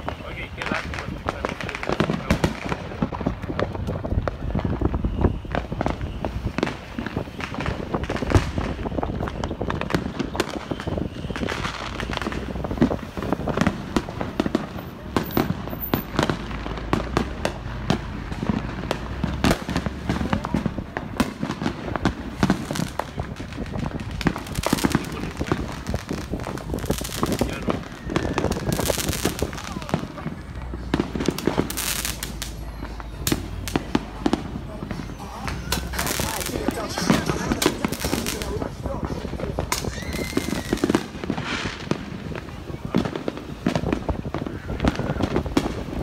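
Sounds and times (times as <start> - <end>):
fireworks and firecrackers barrage: 0.0 - 46.0.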